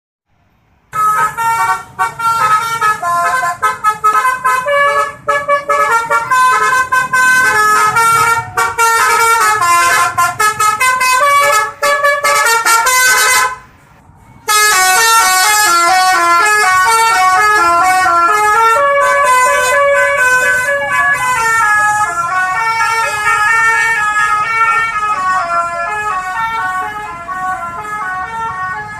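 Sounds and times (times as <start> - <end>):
musical air horn tune: 1.0 - 13.6, 14.5 - 28.4.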